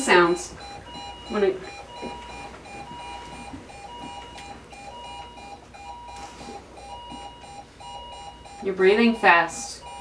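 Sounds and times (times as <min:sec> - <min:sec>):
higher alarm tone: 0:00.0 - 0:10.0
patient monitor beeping fast: 0:00.0 - 0:10.0.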